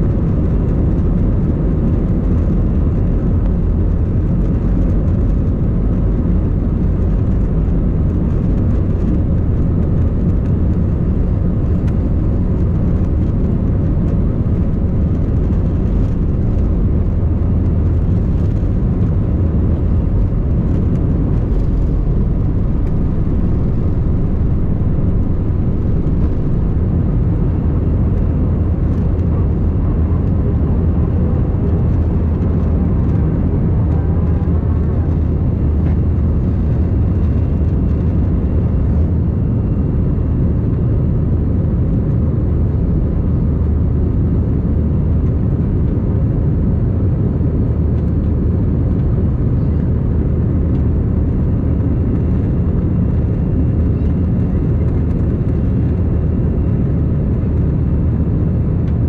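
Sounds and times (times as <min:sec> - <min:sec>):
jet engines drone in cabin: 0:00.0 - 0:59.0.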